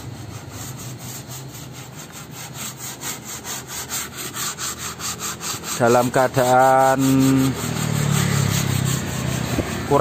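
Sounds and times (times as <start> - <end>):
sandpaper rubbing on steel: 0.0 - 10.0.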